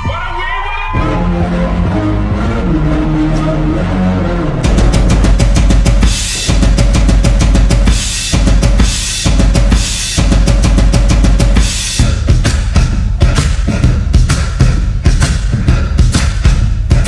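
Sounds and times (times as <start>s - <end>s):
drum-heavy hip hop music: 0.0s - 17.0s.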